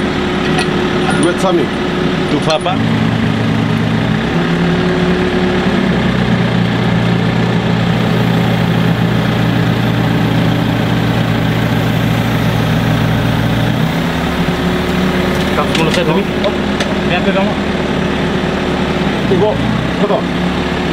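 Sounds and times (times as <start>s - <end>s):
engine idling: 0.0s - 20.9s.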